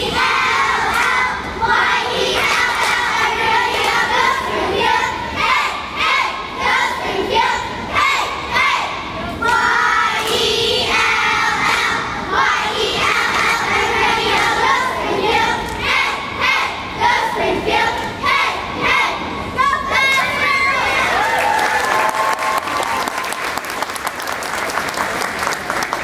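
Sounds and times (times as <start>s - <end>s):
girls chanting a cheer: 0.0s - 21.8s.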